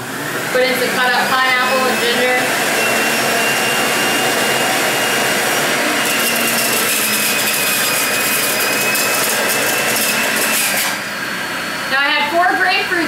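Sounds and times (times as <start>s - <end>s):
juicer motor whine: 0.0s - 13.0s.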